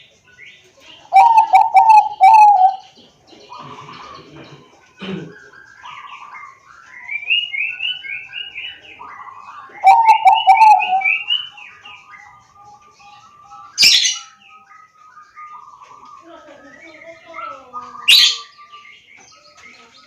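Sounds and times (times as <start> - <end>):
dove singing: 0.0 - 20.0.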